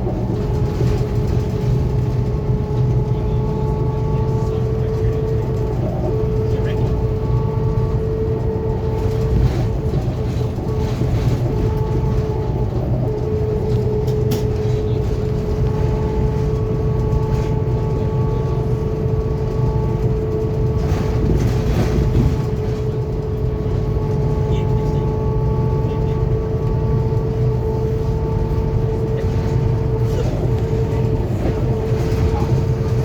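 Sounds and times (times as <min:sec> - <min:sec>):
bus engine and road rumble: 0:00.0 - 0:33.0
steady whine: 0:00.0 - 0:33.0.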